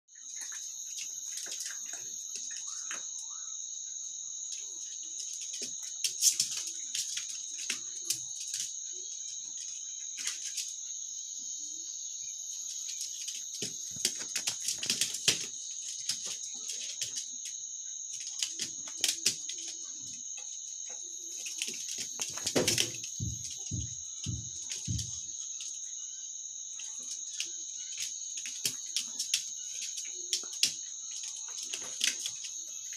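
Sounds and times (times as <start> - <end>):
crickets chirring: 0.1 - 32.9.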